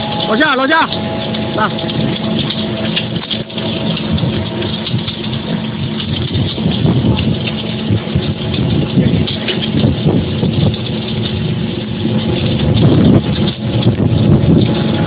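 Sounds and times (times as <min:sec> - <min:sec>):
block making machine drone: 0:00.0 - 0:15.0.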